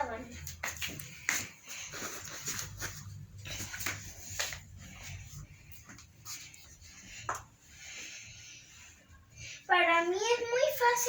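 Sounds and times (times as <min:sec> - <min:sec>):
bedsheet rustling: 0:00.0 - 0:11.0.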